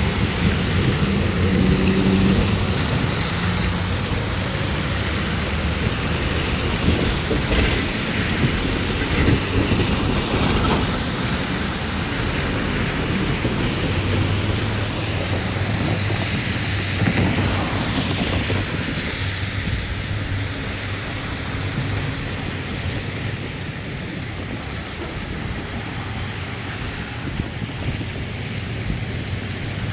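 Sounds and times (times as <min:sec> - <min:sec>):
rain: 0:00.0 - 0:29.9
wind on microphone: 0:00.0 - 0:29.9.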